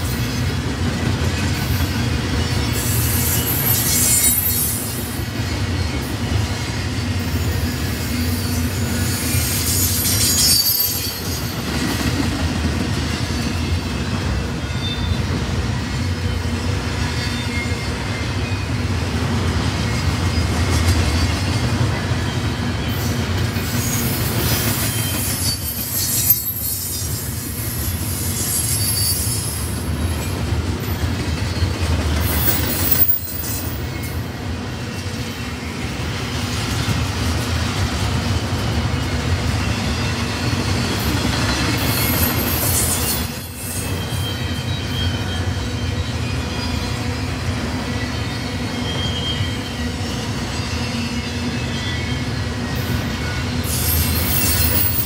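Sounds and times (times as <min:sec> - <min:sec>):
freight train rumbling past: 0:00.0 - 0:55.0
train wheels squealing: 0:00.0 - 0:55.0.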